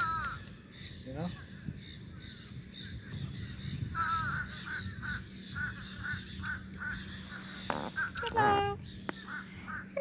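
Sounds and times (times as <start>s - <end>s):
birds short repeated calls: 0.0s - 10.0s
steady low hum: 0.0s - 10.0s.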